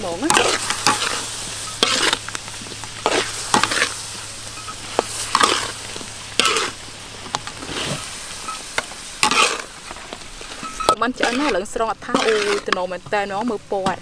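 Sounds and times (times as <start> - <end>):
pork sizzling in a wok: 0.0 - 12.6
metal spatula scraping a wok: 0.0 - 13.8.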